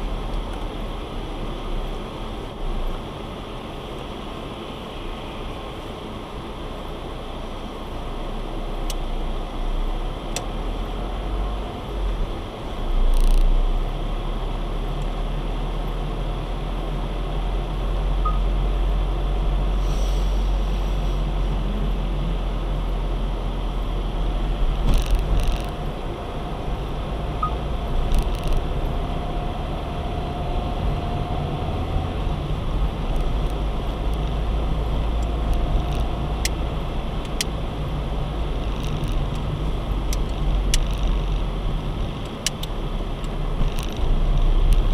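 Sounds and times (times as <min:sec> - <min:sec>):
car rumbling on wet road: 0:00.0 - 0:44.9.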